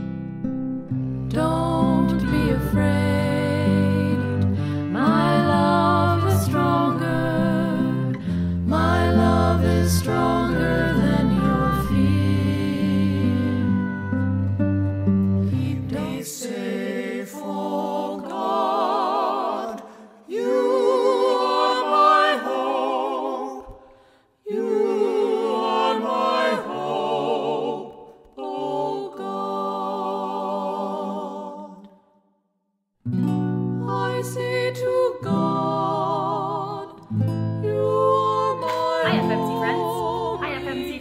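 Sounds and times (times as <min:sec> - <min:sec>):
hymn singing with vibrato: 0:01.4 - 0:14.1, 0:15.6 - 0:31.9, 0:33.9 - 0:37.0, 0:37.6 - 0:41.0.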